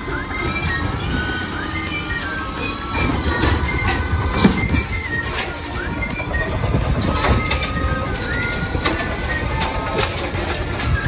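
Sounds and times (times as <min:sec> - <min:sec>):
garbage truck engine running: 0:00.0 - 0:11.0
hydraulic arm lifting: 0:00.0 - 0:11.0.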